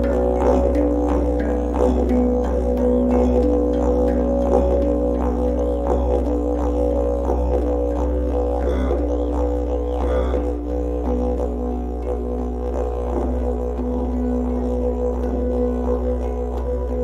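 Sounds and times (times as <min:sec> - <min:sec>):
didgeridoo drone: 0:00.0 - 0:17.0
held higher notes: 0:00.0 - 0:17.0.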